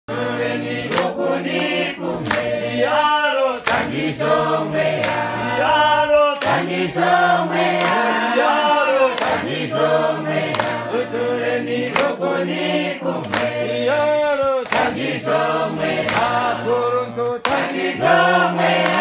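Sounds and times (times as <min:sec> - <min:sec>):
hand claps: 0:00.1 - 0:09.7, 0:10.4 - 0:15.3, 0:15.9 - 0:19.0
congregation singing a hymn: 0:00.1 - 0:19.0.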